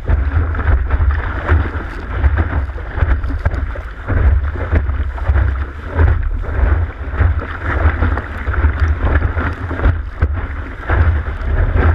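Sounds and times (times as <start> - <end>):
water rushing and splashing: 0.0 - 11.9
wind buffeting microphone: 0.0 - 11.9.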